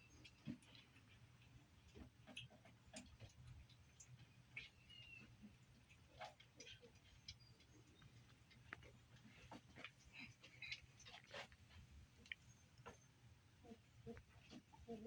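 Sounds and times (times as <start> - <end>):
small clicks of animals eating: 0.0 - 15.0.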